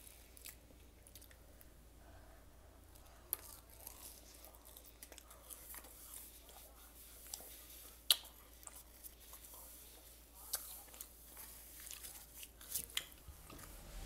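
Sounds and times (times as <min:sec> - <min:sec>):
person chewing food: 0:00.0 - 0:01.8, 0:02.9 - 0:13.7.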